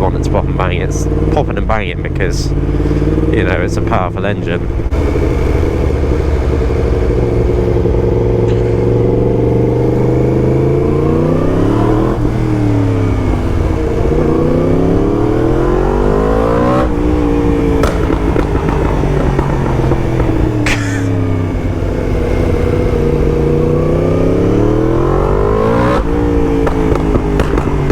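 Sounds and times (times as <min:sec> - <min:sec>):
exhaust crack: 0:00.0 - 0:27.9
motorcycle engine accelerating: 0:00.0 - 0:27.9.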